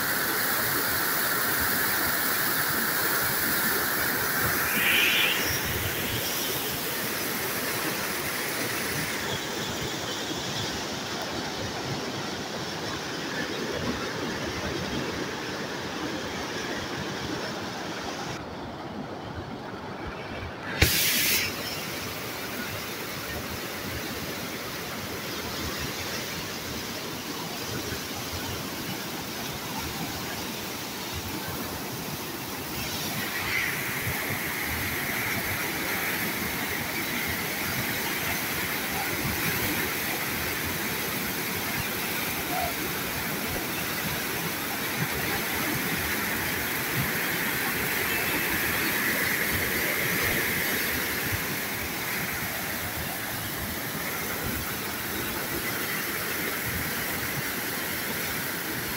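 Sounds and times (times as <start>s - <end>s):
water rushing over spillway: 0.0s - 58.9s.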